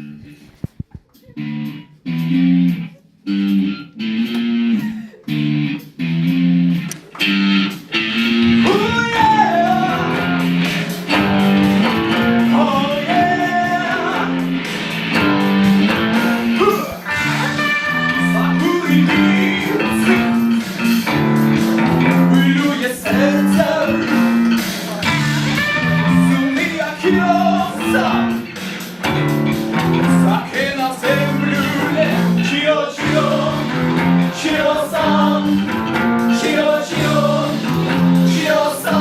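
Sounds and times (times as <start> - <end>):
guitar lead melody with bends: 0.0 - 39.0
guitars playing choppy chords: 0.0 - 39.0.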